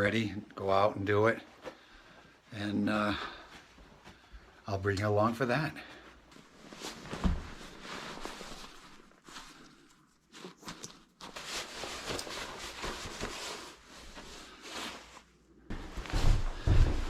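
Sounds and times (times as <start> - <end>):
rustling handling noises: 3.2 - 17.0.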